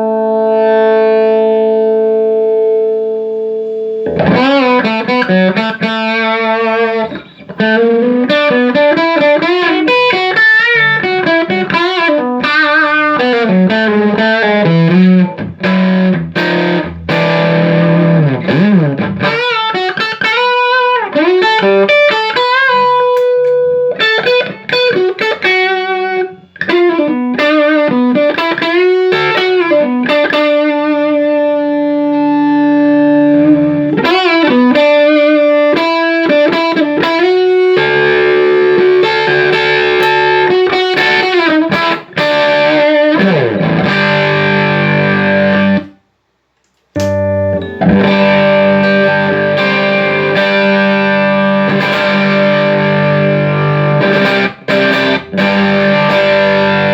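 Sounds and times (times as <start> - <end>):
electric guitar lead lines: 0.0 - 46.0, 46.7 - 56.9.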